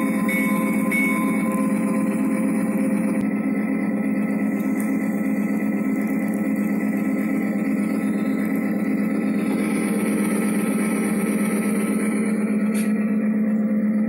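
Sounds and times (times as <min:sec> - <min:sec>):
model locomotive diesel drone: 0:00.0 - 0:14.0.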